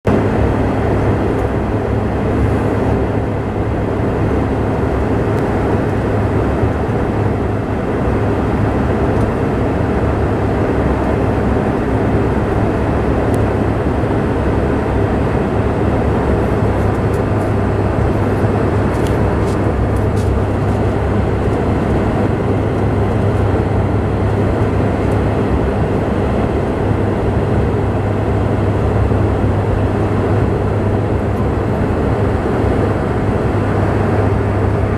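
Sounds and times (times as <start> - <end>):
jet engine and air roar: 0.0 - 34.9
constant low hum: 0.1 - 34.9.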